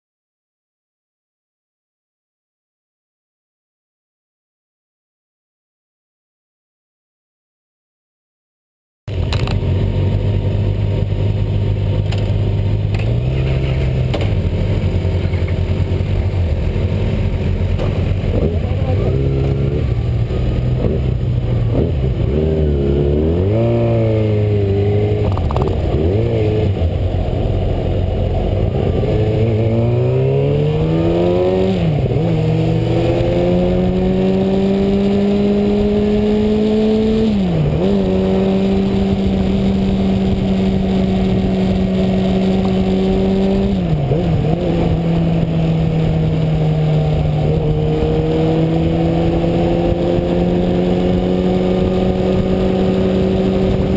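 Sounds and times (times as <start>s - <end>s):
motorcycle engine revving: 9.1s - 53.9s
wind rumble: 9.1s - 53.9s.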